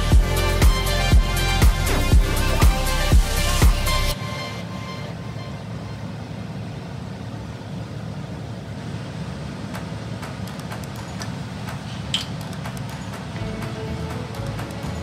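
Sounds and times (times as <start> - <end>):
gas burner rumble: 0.0 - 15.0.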